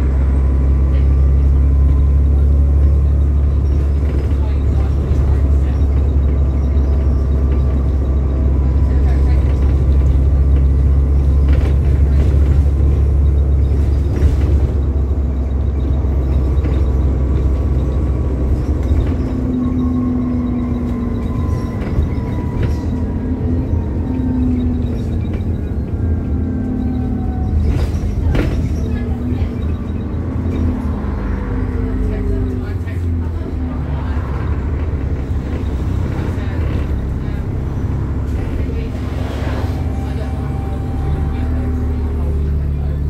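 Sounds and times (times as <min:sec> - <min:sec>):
bus engine rumble: 0:00.0 - 0:43.0.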